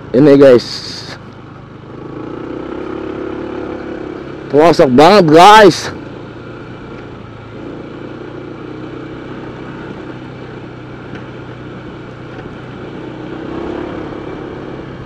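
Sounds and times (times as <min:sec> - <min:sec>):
scooter engine humming: 0:00.0 - 0:15.0.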